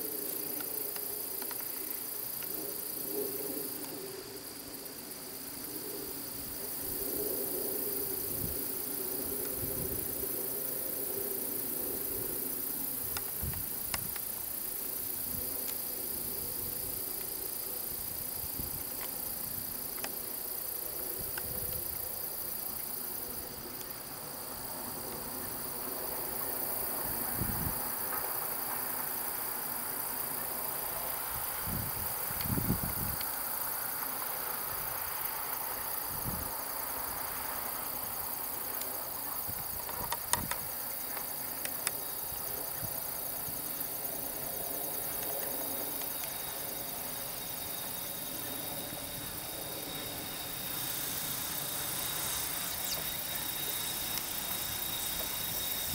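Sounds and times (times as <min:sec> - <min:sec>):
crickets and insects chirring: 0:00.0 - 0:55.9.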